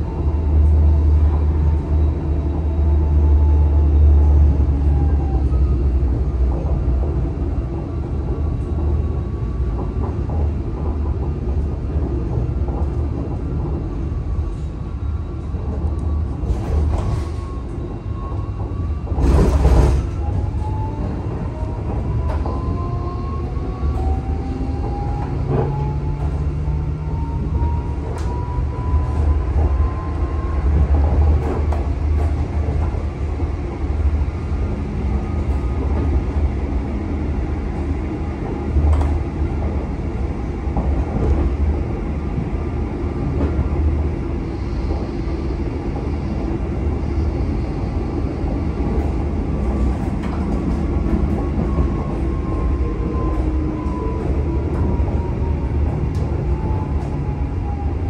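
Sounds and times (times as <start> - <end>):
tram wheels rumbling on rails: 0.0 - 58.0.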